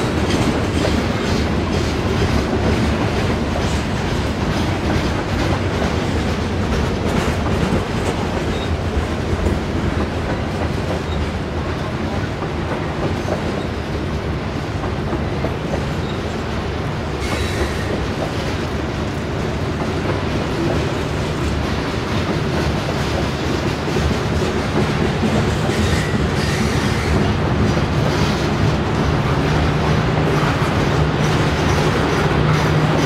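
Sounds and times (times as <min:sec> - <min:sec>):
clickety-clack of wheels: 0:00.0 - 0:33.0
freight train wheels rumbling: 0:00.0 - 0:33.0.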